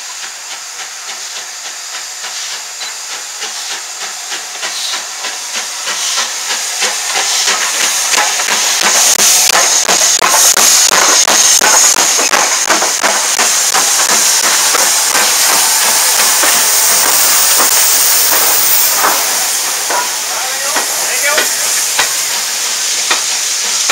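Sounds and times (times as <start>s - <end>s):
loud steam hiss: 0.0s - 23.9s
steam locomotive exhaust chuffs: 0.0s - 23.9s.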